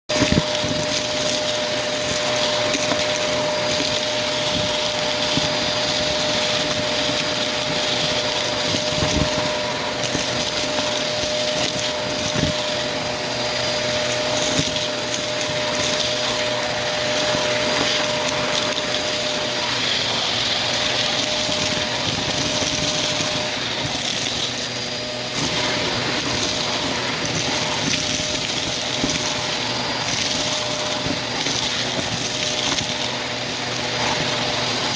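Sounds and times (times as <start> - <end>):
vacuum cleaner suction hissing: 0.1 - 34.9.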